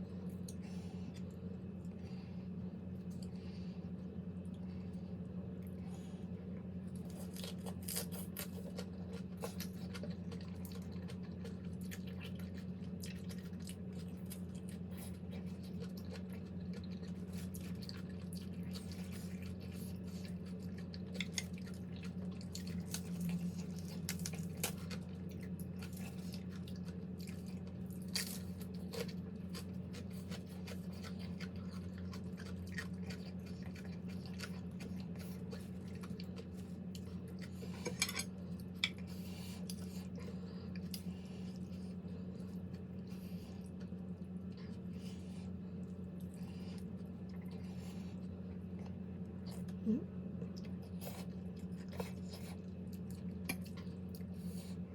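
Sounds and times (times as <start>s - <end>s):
steady low hum: 0.0s - 54.9s
wet chewing: 6.8s - 49.8s, 50.4s - 54.9s.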